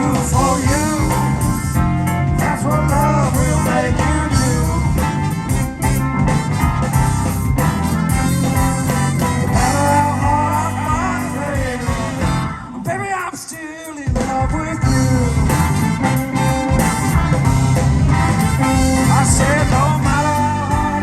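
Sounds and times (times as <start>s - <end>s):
wavering lead melody line: 0.0s - 12.8s, 14.8s - 21.0s
live blues band playing: 0.0s - 21.0s.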